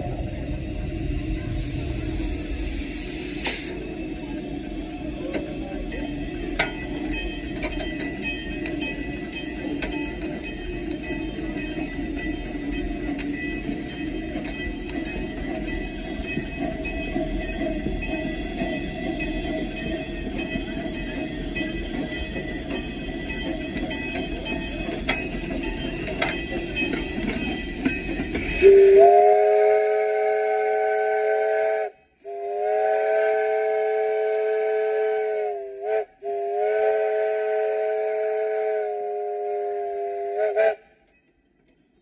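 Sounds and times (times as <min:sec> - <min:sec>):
steam locomotive rumble and ticks: 0:00.0 - 0:42.0
chime steam whistle: 0:05.9 - 0:40.8.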